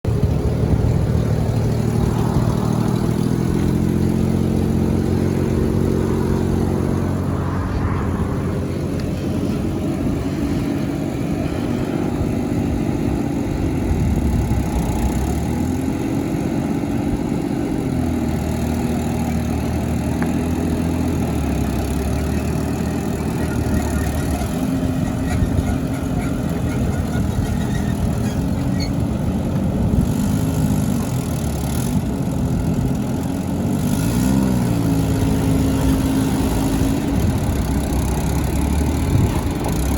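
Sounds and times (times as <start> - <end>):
truck engine revving: 0.1 - 39.9.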